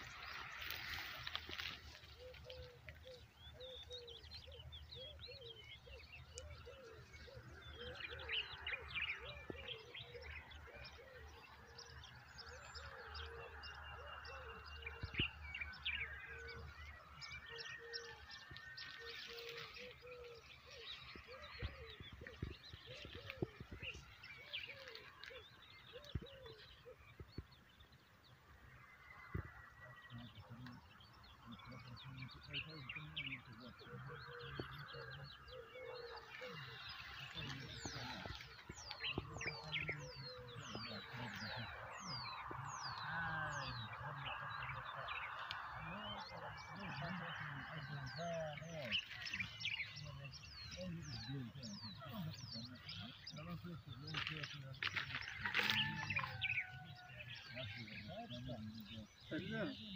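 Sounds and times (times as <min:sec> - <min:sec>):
birds chirping and trilling: 0:00.0 - 0:59.9
low repeated bird notes: 0:00.0 - 0:59.9.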